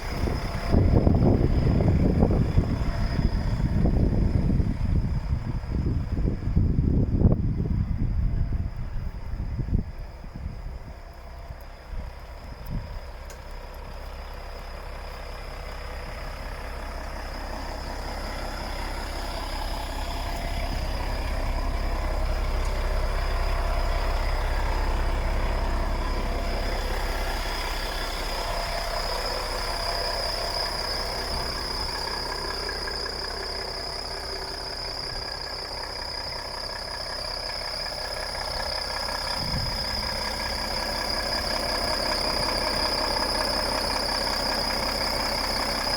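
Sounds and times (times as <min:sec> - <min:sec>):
constant high whine: 0:00.0 - 0:45.9
diesel truck engine idling: 0:00.0 - 0:45.9.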